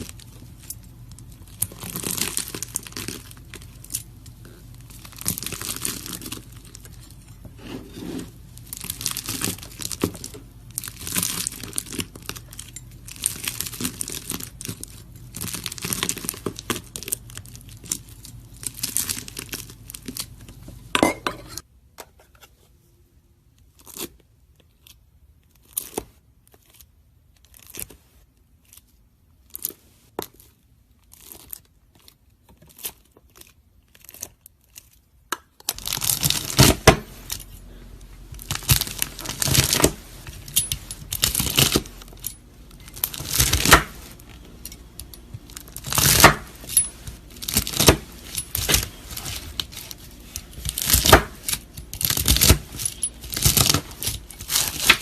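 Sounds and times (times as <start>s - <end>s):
crunchy slime crackling: 0.0s - 7.4s, 8.3s - 20.9s, 24.8s - 55.0s.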